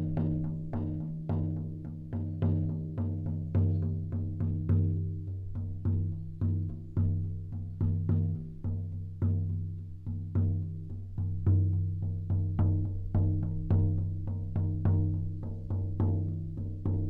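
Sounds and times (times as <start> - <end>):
frame drum beaten steadily: 0.0 - 17.0.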